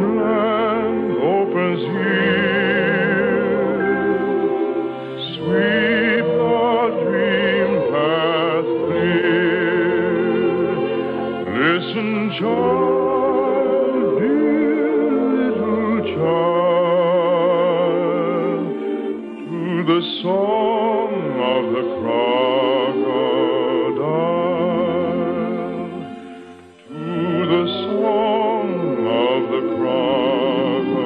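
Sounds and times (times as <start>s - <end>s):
orchestral accompaniment: 0.0s - 31.0s
solo voice singing with vibrato: 0.0s - 31.0s.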